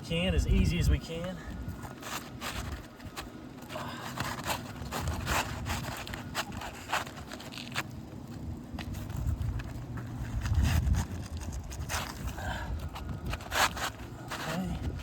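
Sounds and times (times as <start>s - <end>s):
asphalt shingle scraping: 0.5s - 15.0s.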